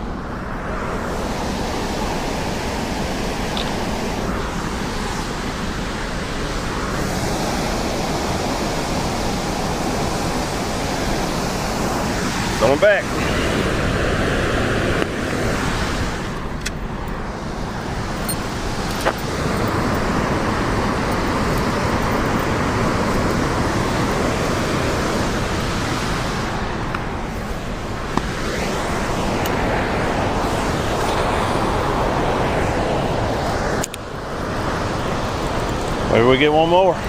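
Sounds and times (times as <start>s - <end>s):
water rushing from a dam: 0.0s - 37.0s.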